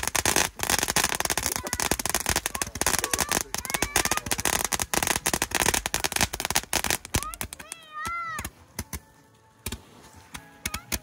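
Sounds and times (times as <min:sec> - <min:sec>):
firework crackling and popping: 0:00.0 - 0:11.0.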